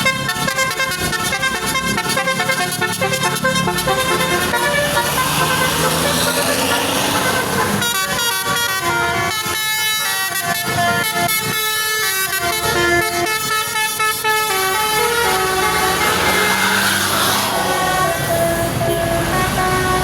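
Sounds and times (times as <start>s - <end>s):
multi-tone air horn melody: 0.0s - 20.0s
vehicle on the road: 0.0s - 20.0s.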